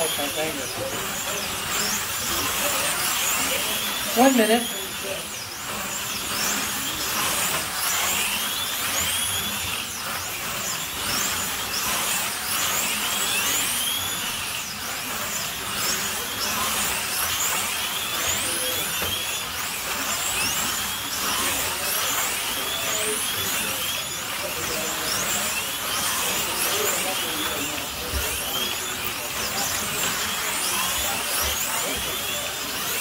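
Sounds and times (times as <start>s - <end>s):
slot car motors whining: 0.0s - 33.0s.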